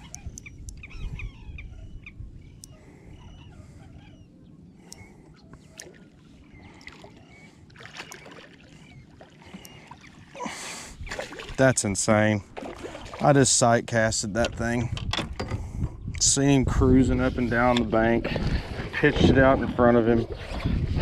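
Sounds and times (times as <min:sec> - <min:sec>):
water noise around kayak: 0:00.0 - 0:13.7, 0:14.5 - 0:21.0.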